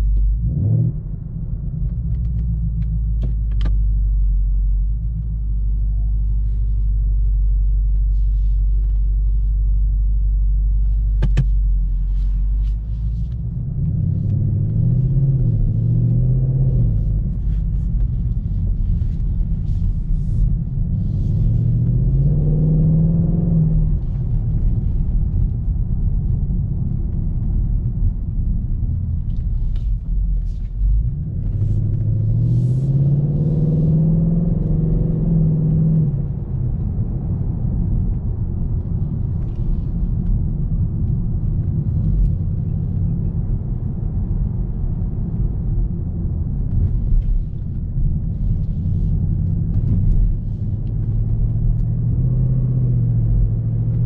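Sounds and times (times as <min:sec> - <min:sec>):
car engine rumbling: 0:00.0 - 0:54.0
road noise: 0:00.0 - 0:54.0.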